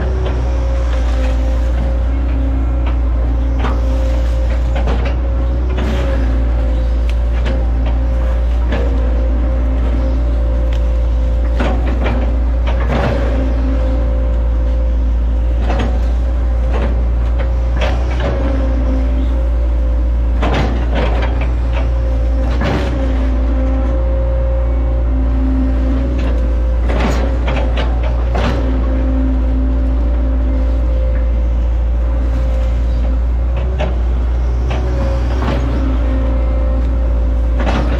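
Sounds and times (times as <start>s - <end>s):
excavator diesel engine whining: 0.0s - 37.9s.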